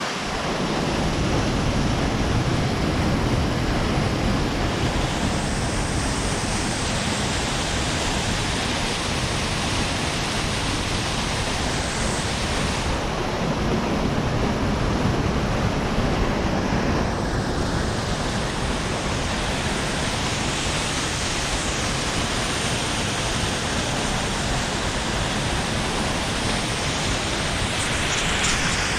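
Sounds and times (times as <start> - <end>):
fast-running water rushing: 0.0 - 28.9.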